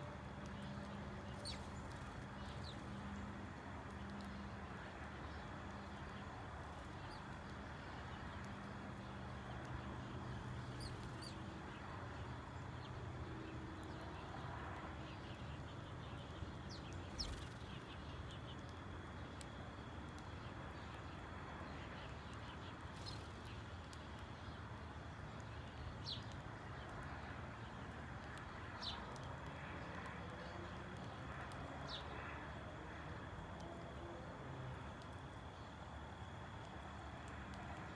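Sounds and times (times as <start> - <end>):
sparrows chirping: 0.3 - 33.0.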